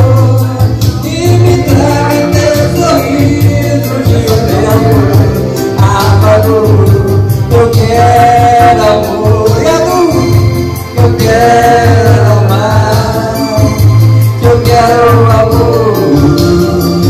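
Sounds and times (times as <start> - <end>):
backing track with steady beat: 0.0 - 17.0
man singing karaoke: 0.0 - 17.0.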